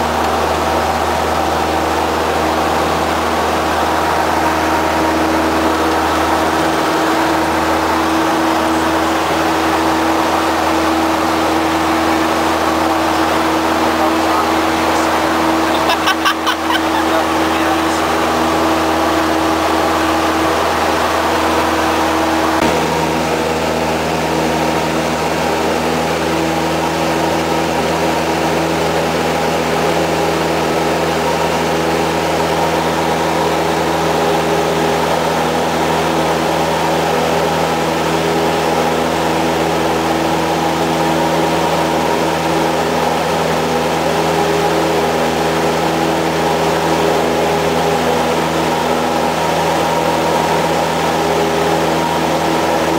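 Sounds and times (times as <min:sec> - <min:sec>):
airplane engine and propeller droning: 0:00.0 - 0:52.9.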